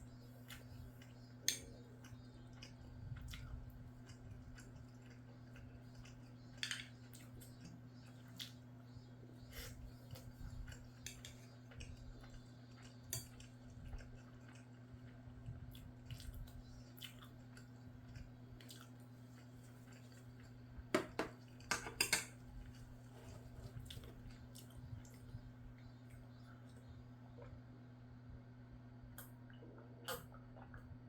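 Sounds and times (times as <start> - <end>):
quiet chewing: 0.2 - 27.8.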